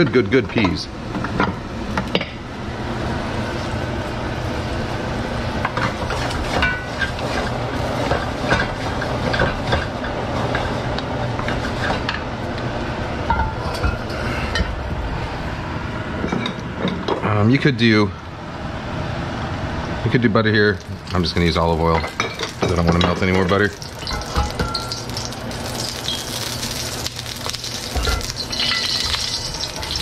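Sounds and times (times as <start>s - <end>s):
kitchen hum and hiss: 0.0s - 30.0s.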